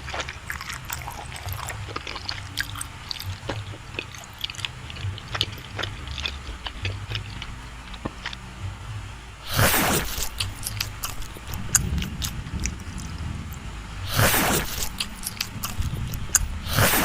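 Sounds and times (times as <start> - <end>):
person chewing cake: 0.0 - 8.4, 9.4 - 17.0.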